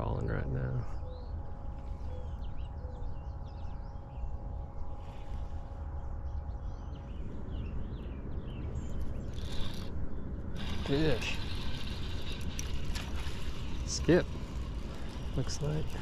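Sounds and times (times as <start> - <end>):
faint steady hum: 0.0 - 16.0
steady low rumble: 0.0 - 16.0
wild birds chirping: 0.0 - 16.0.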